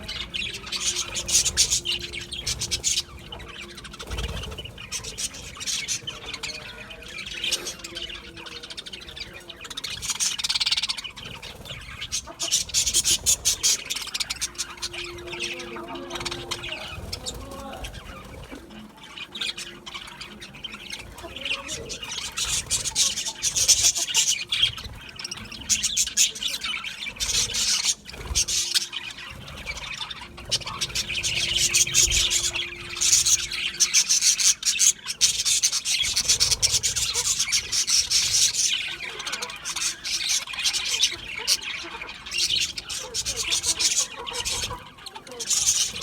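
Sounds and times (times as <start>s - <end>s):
budgerigars chirping: 0.0s - 46.0s.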